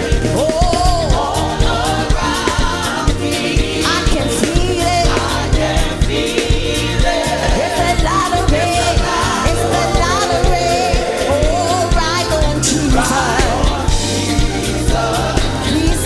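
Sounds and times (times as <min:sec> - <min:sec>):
drums and bass beat: 0:00.0 - 0:16.0
singers with wavering lines: 0:00.0 - 0:16.0.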